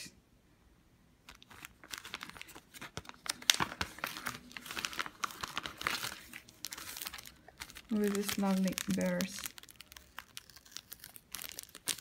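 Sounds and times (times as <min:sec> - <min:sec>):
plastic sleeve crinkling: 0:01.2 - 0:12.0.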